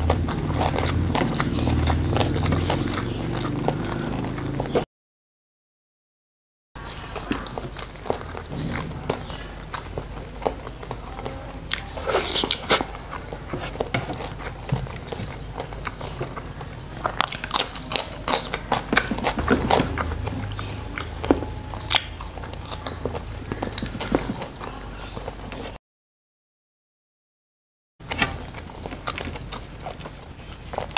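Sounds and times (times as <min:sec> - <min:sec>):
man chewing and crunching food: 0:00.0 - 0:04.9, 0:06.8 - 0:25.8, 0:28.0 - 0:30.9.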